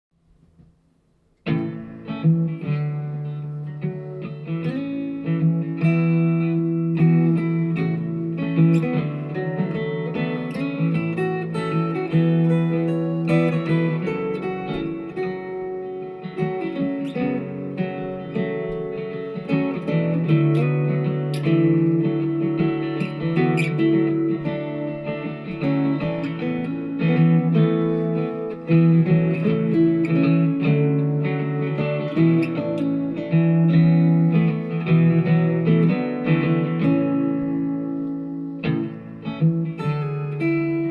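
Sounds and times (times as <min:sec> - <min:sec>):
guitar chords: 0:00.2 - 0:40.9.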